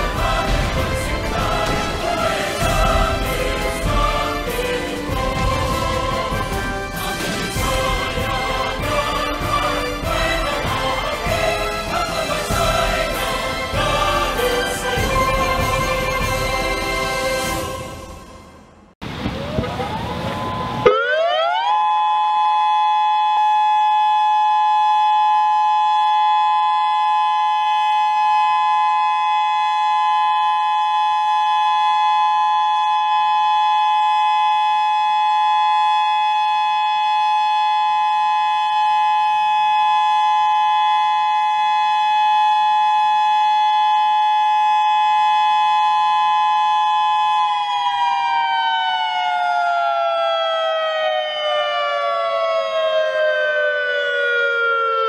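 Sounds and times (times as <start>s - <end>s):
siren wailing: 0.0s - 18.8s, 19.4s - 55.0s.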